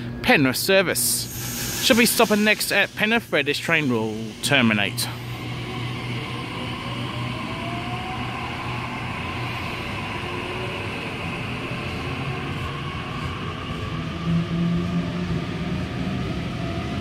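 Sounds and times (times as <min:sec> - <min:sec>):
steady low hum: 0:00.0 - 0:17.0
train traction motors whining: 0:00.8 - 0:17.0.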